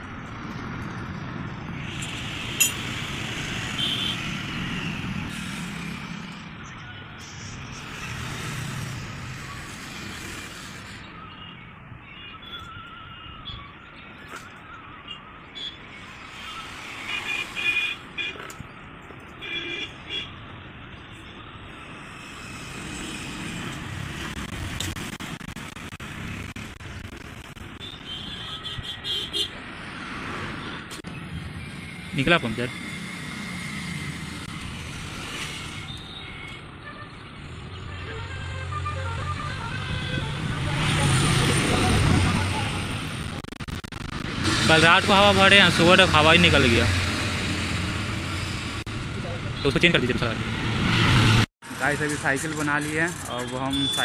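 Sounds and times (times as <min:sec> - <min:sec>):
passing road traffic: 0:00.0 - 0:54.0.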